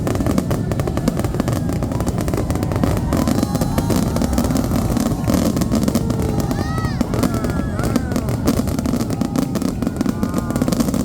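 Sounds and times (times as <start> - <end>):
faint firework whistles: 0.0 - 11.0
fireworks bangs and crackles: 0.0 - 11.0.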